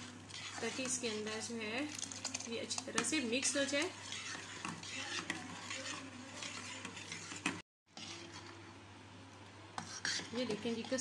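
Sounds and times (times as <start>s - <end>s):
ladle scraping a steel pot: 0.0s - 8.6s, 9.8s - 11.0s.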